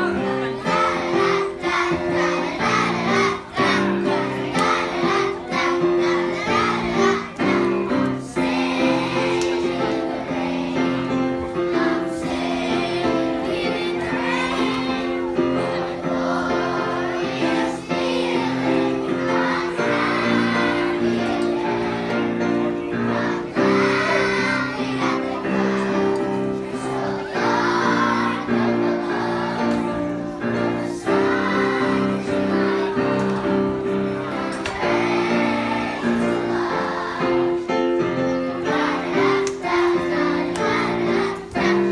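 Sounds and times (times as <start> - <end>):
children singing: 0.0 - 41.9.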